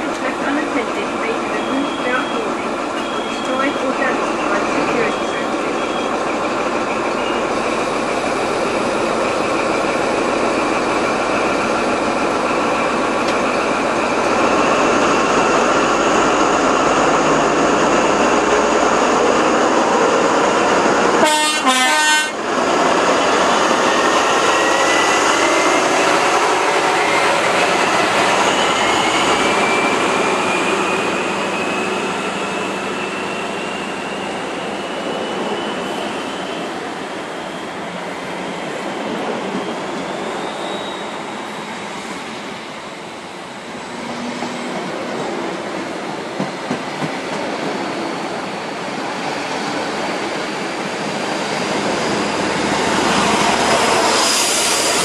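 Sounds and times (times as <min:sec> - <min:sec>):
diesel train engine passing: 0:00.0 - 0:55.0.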